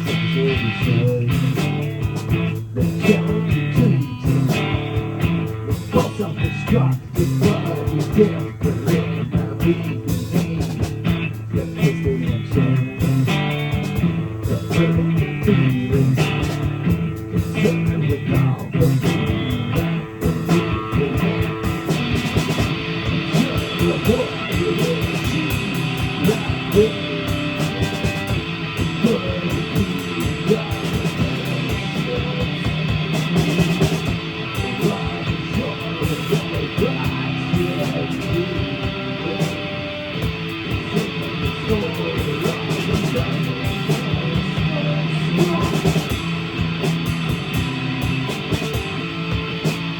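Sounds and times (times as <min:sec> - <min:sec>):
live rock band playing: 0:00.0 - 0:49.9
sustained bright electric guitar: 0:00.0 - 0:49.9.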